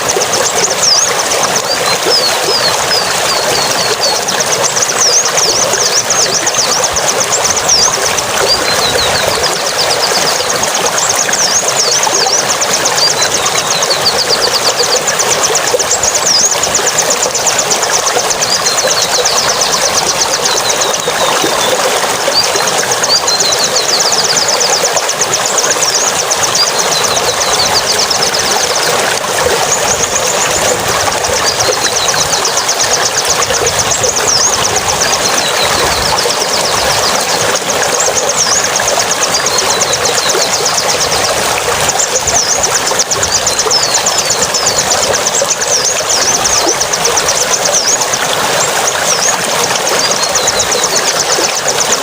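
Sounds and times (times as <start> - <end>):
birds twittering: 0.0 - 52.0
running water: 0.0 - 52.0.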